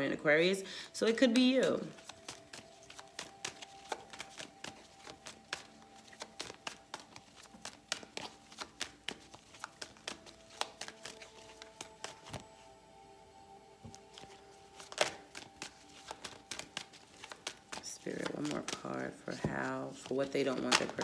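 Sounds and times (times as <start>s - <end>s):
cards being shuffled: 1.2s - 12.6s, 13.8s - 21.0s.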